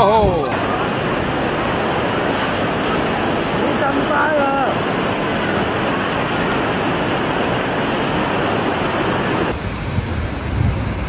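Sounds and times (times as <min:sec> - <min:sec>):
floodwater rushing: 0:00.5 - 0:11.0.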